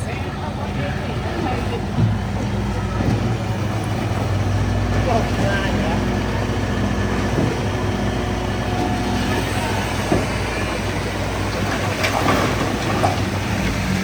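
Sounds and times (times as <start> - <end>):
bulldozer diesel engine: 0.0 - 14.0
steel tracks clanking and squealing: 1.0 - 14.0.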